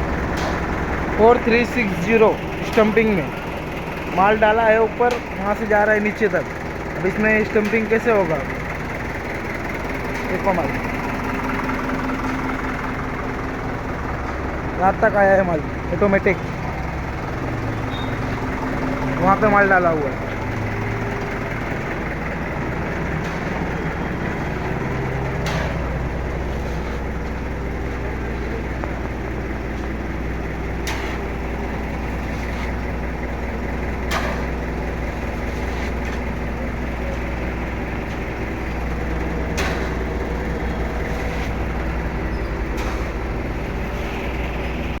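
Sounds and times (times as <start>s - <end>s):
heavy machinery droning: 0.0s - 45.0s.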